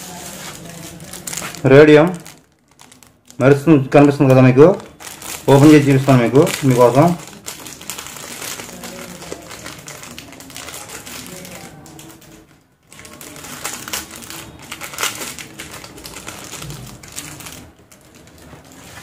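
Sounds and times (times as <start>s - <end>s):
plastic packet crinkling: 0.0s - 19.0s.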